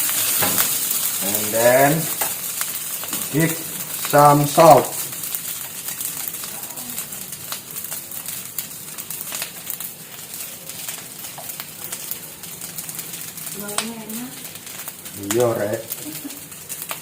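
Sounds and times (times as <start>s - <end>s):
rice sizzling in a frying pan: 0.0s - 17.0s.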